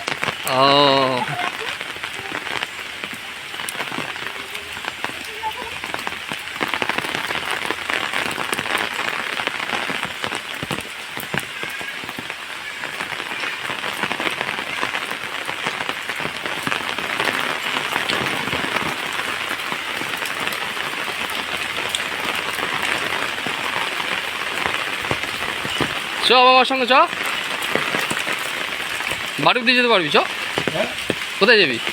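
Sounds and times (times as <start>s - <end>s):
raindrops ticking close by: 0.0s - 31.9s
steady rain falling: 0.0s - 31.9s.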